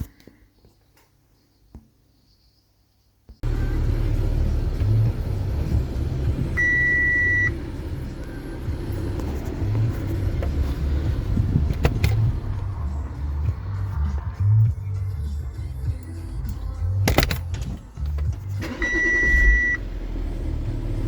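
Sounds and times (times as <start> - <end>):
car engine idling: 3.4 - 21.0.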